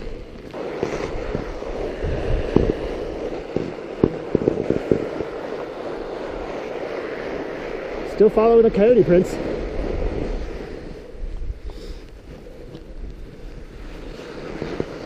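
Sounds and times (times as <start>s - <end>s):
bike tires rolling over snow: 0.0s - 15.0s
wind on microphone: 0.0s - 15.0s.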